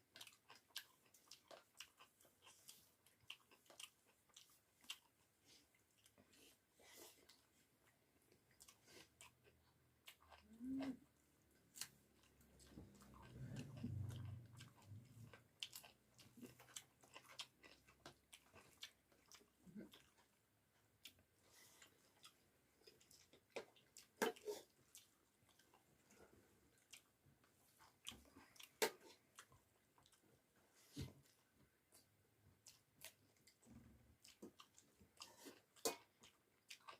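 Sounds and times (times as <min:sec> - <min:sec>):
person chewing with wet mouth sounds: 0:00.0 - 0:36.9.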